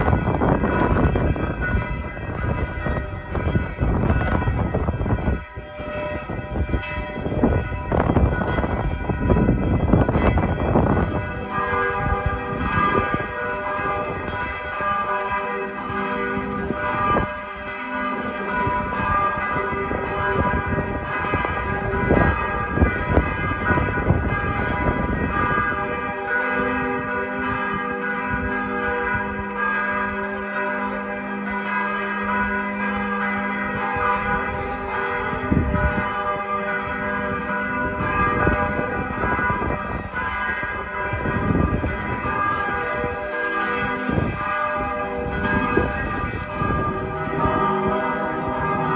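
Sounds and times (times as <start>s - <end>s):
church bells pealing: 0.0s - 48.9s.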